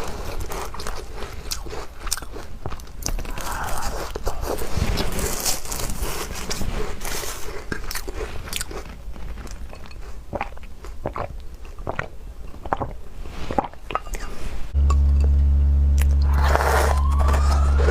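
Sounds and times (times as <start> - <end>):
crunching and chewing cookies: 0.0 - 14.4.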